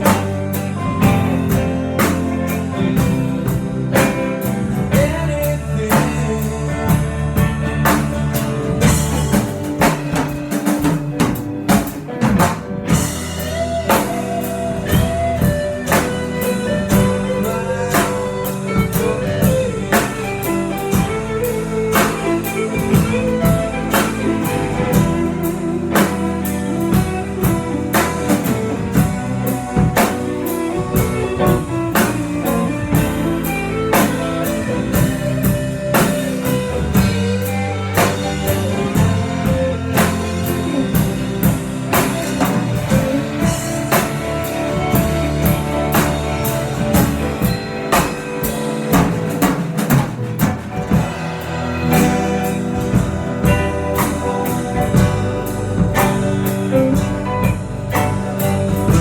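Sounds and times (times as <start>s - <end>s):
drum kit steady beat: 0.0s - 59.0s
electric guitar playing: 0.0s - 59.0s.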